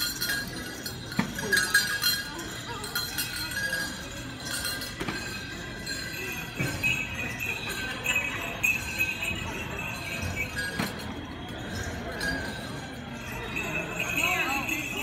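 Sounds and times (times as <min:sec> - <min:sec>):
metal jingles and bells clinking: 0:00.0 - 0:15.0.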